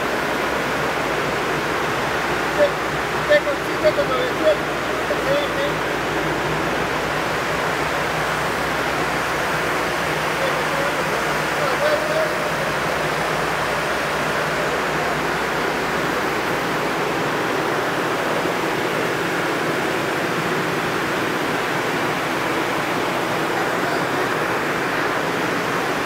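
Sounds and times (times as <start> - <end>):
machinery rushing noise: 0.0 - 26.0.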